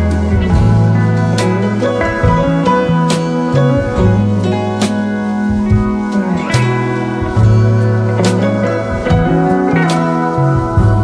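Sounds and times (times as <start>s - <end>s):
instrumental music with bass line: 0.0s - 11.0s.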